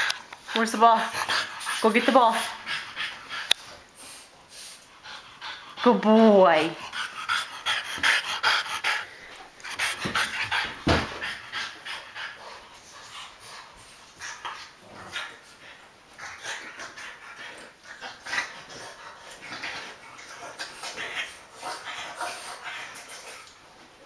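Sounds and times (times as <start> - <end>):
dogs panting: 0.0 - 24.0.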